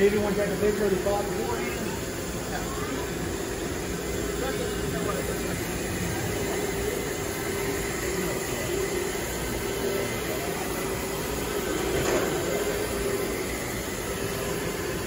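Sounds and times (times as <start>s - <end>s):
carpet scrubber machine hum: 0.0s - 15.0s.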